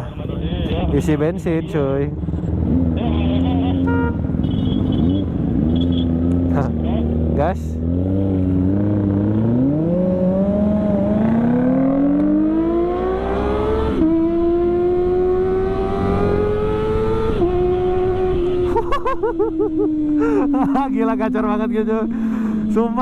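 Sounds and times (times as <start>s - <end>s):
motorcycle engine accelerating: 1.9s - 23.0s.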